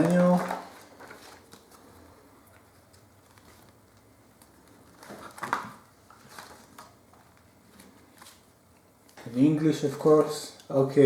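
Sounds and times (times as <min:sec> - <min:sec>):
paper pages rustling: 0:00.0 - 0:09.5.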